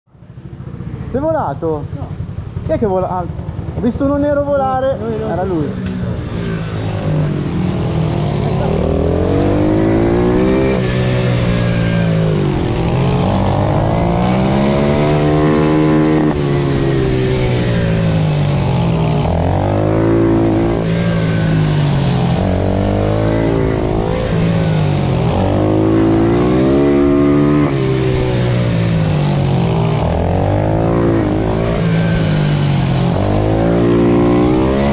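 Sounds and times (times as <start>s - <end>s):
motorbike engine revving: 2.0s - 34.9s.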